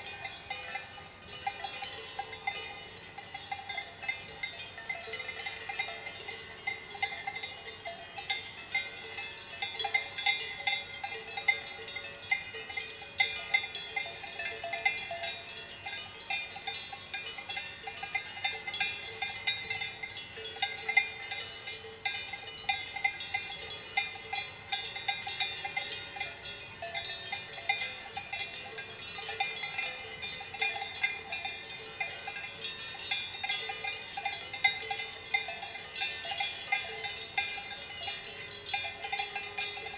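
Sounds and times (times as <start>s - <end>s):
cowbells clanking: 0.0s - 39.9s.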